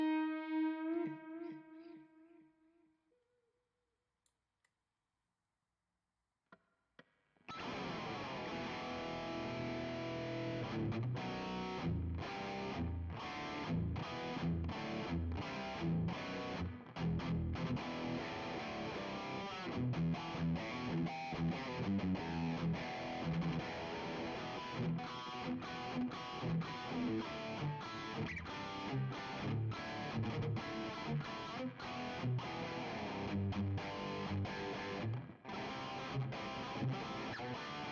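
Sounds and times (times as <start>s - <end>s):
distorted electric guitar chords: 0.0s - 2.4s, 7.5s - 37.9s.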